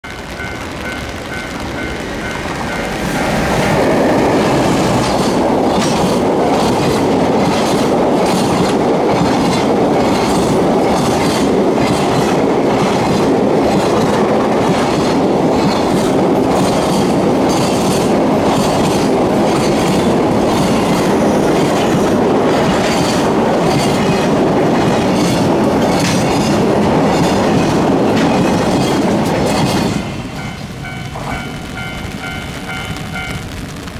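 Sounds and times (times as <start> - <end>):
train wheels clacking over rail joints: 1.7 - 33.3.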